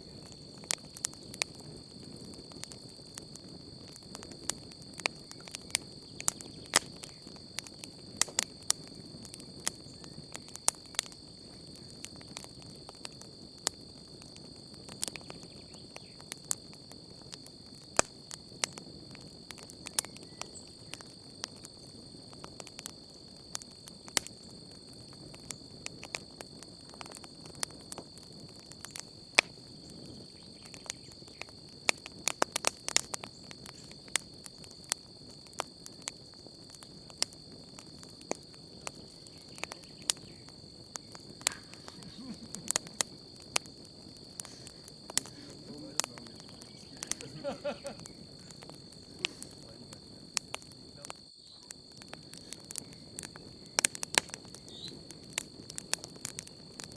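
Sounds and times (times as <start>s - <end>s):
campfire crackling and popping: 0.0s - 56.9s
crickets trilling: 0.0s - 56.9s.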